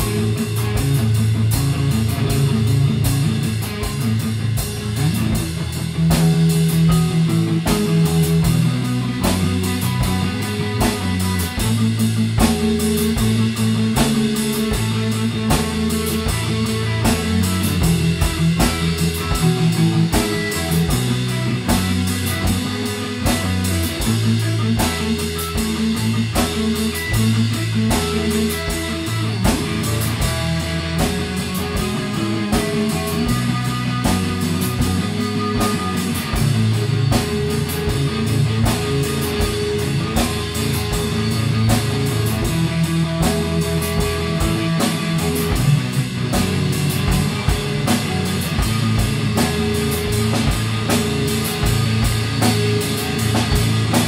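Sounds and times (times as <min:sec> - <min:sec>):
band playing guitars and drums: 0:00.0 - 0:54.0.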